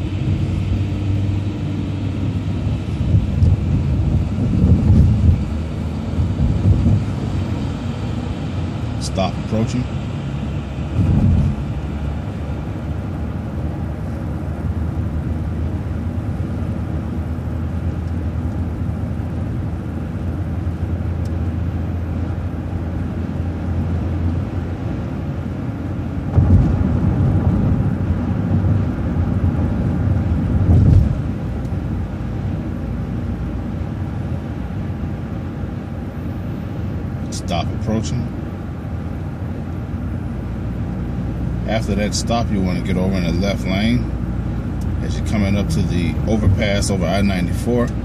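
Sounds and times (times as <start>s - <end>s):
bus engine low rumble: 0.0s - 48.0s.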